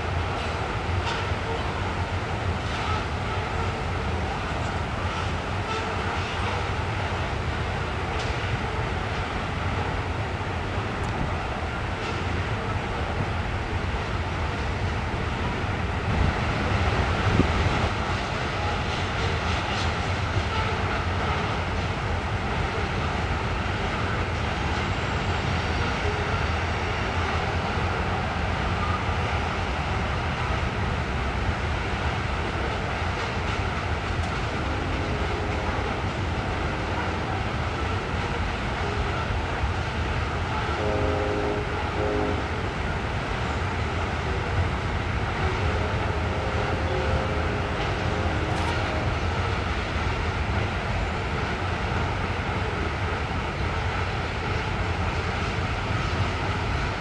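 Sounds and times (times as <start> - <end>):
faint train horn blasts: 0.0 - 10.0, 16.8 - 57.0
freight train wheels on rails: 0.0 - 57.0.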